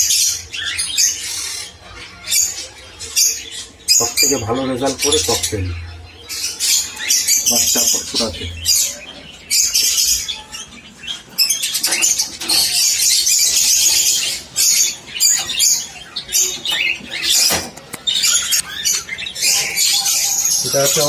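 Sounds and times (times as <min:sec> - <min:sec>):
parrots chirping and screeching: 0:00.0 - 0:21.0.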